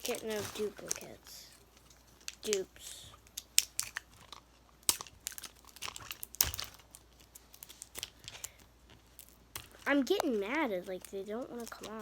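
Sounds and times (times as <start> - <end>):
plastic wrapping crinkling and tearing: 0.0 - 12.0.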